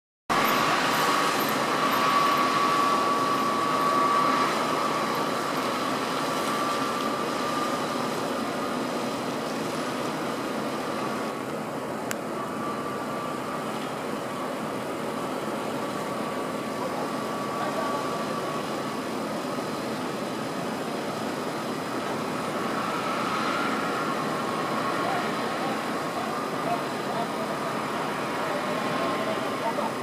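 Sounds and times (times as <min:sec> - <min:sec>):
high whine: 0:00.3 - 0:30.0.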